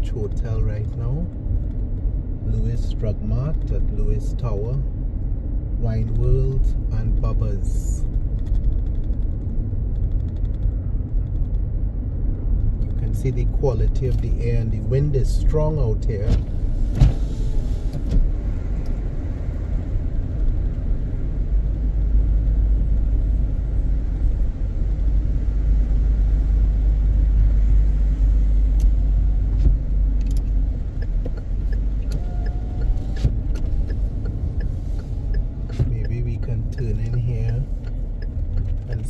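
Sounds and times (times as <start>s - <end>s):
car interior rumble: 0.0s - 39.0s.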